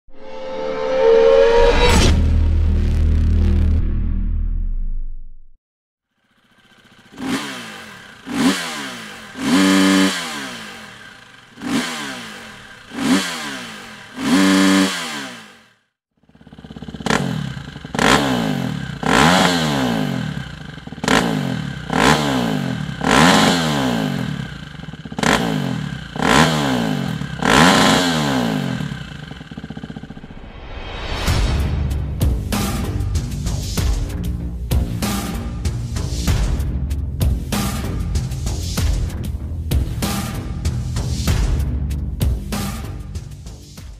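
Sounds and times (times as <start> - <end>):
motorcycle engine revving: 6.1 - 30.7, 32.5 - 43.8.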